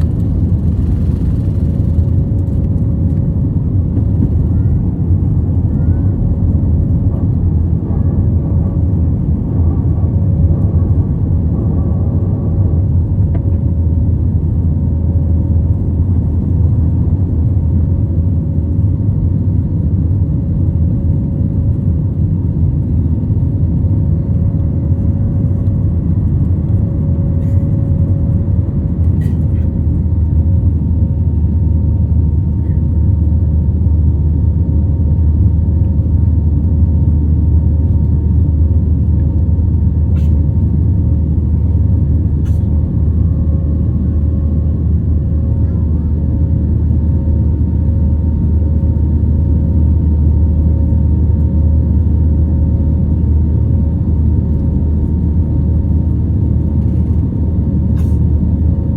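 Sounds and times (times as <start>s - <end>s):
faint steady hum: 0.0s - 58.9s
jet engines and airflow rumble: 0.0s - 58.9s.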